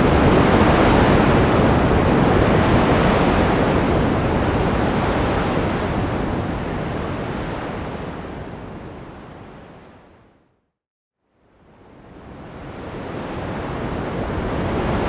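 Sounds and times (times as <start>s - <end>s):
ocean surf rushing: 0.0s - 10.0s, 12.2s - 15.0s.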